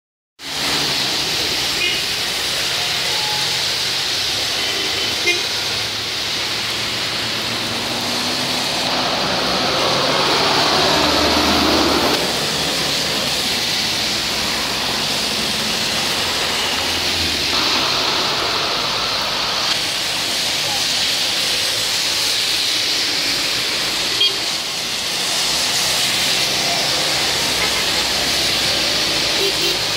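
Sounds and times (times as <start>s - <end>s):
heavy rain hissing on road: 0.4s - 29.9s
tyres swishing through water: 0.4s - 29.9s.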